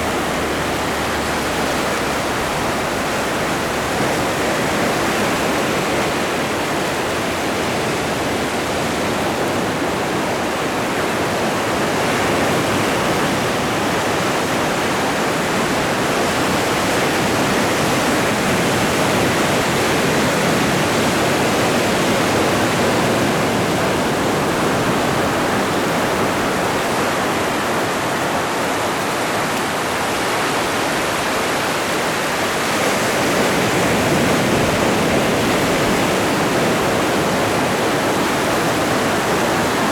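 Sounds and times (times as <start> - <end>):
surf washing against shore: 0.0 - 39.9.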